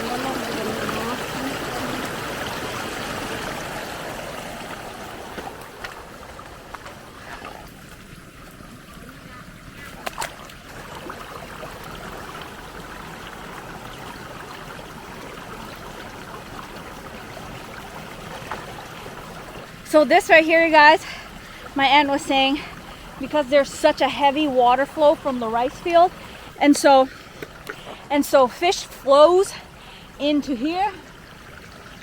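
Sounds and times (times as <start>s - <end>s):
water running into channel: 0.0s - 32.0s.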